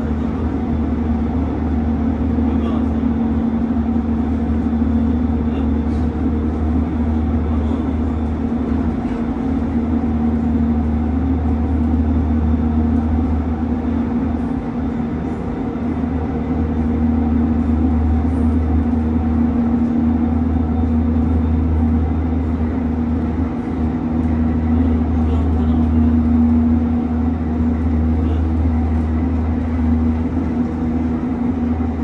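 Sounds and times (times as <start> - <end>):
steady hum: 0.0 - 32.0
train wheels rumbling on track: 0.0 - 32.0.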